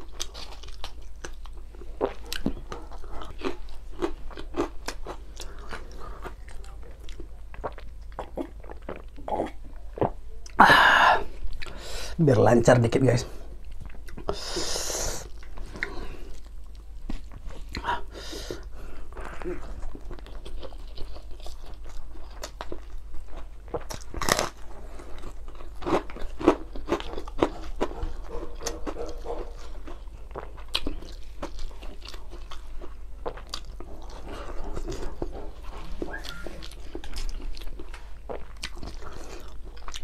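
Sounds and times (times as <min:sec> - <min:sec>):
man chewing and lip smacking: 0:00.0 - 0:10.6, 0:11.4 - 0:11.8, 0:13.6 - 0:14.6, 0:15.2 - 0:18.1, 0:19.1 - 0:40.0.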